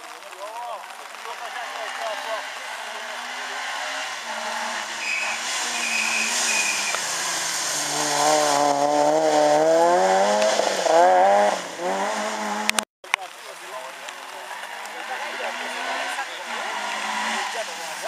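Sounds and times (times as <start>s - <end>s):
rally car engine passing: 0.9s - 12.8s, 13.9s - 18.0s.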